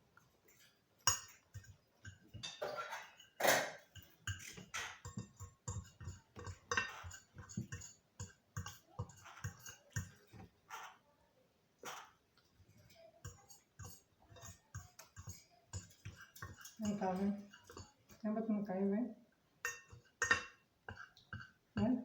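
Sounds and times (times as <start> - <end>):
cutlery scraping a plate: 0.4 - 11.0, 11.8 - 12.2, 12.8 - 18.2, 19.6 - 21.6.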